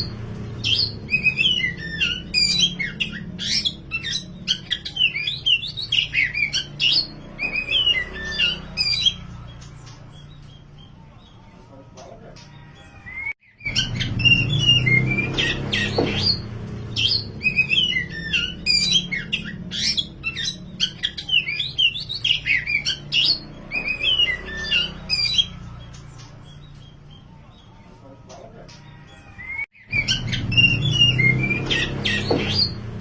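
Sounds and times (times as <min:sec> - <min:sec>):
magpie-robin singing: 0:00.0 - 0:33.0.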